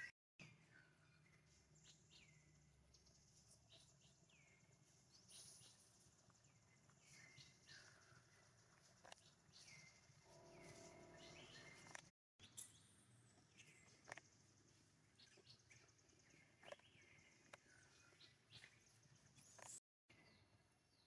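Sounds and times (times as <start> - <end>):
faint outdoor ambience: 0.0 - 21.0.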